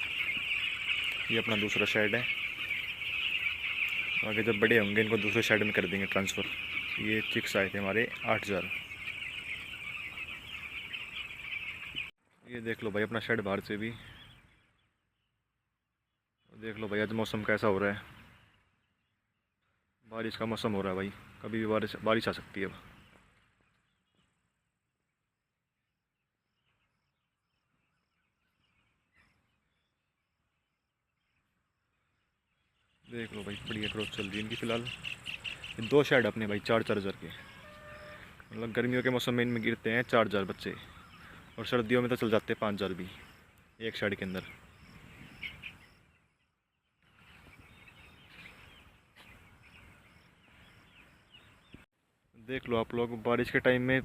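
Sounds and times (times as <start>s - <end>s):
faint bird chirps: 0.0s - 51.9s.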